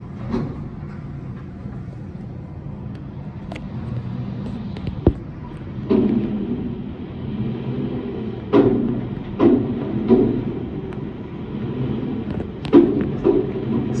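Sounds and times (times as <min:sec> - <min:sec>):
garbage truck engine droning: 0:00.0 - 0:14.0.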